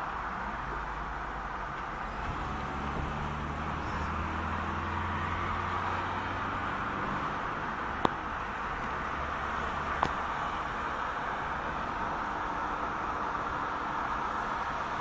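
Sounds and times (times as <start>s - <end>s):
car engine and tyre hum: 0.0s - 15.0s.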